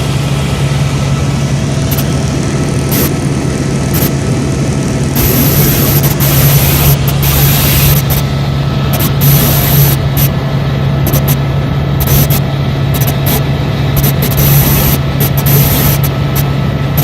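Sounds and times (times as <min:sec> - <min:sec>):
helicopter rotor and engine drone: 0:00.0 - 0:17.0
high thin whine: 0:00.0 - 0:17.0.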